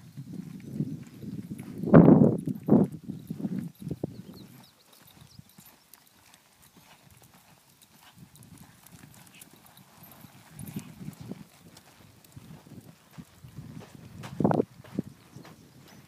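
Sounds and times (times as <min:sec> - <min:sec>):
horse hoofbeats on dirt: 0:00.0 - 0:16.0.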